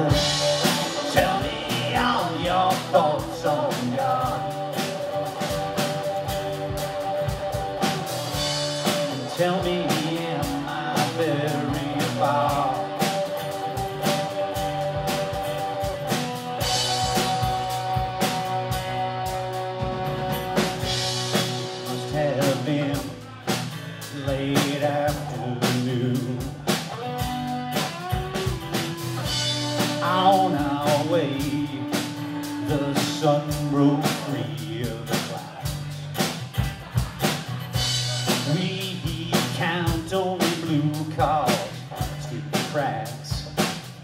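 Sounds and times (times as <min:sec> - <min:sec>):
drum kit beat: 0:00.0 - 0:44.0
electric guitar: 0:00.0 - 0:44.0
strummed acoustic guitar: 0:00.0 - 0:44.0.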